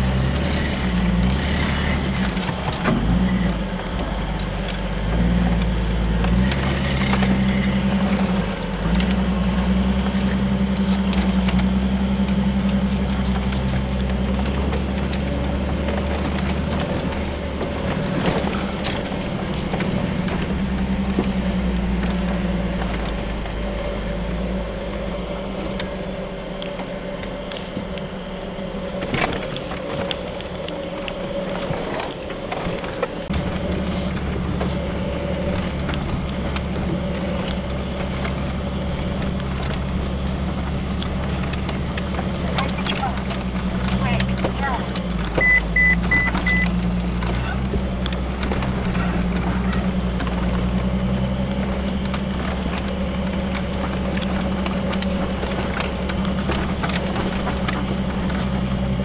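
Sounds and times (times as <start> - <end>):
engine pulling under load: 0.0 - 59.0
tires clunking over rocks: 0.0 - 59.0.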